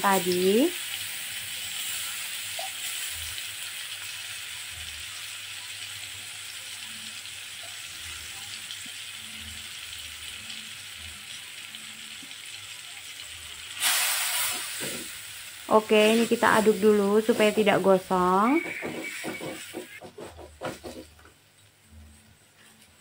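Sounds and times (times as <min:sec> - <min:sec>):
paste sizzling in hot oil: 0:00.0 - 0:21.3.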